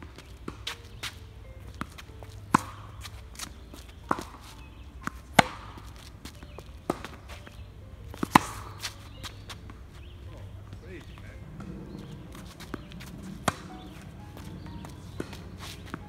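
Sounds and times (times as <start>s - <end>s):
tennis ball bouncing on court: 0.0s - 16.0s
tennis ball struck by rackets: 0.0s - 16.0s.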